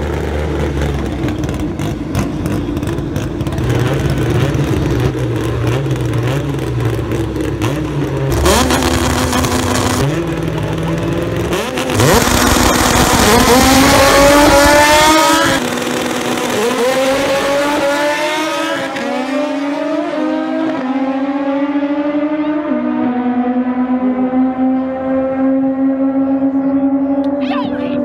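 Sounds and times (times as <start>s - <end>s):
drag car engines revving hard: 0.0s - 27.4s.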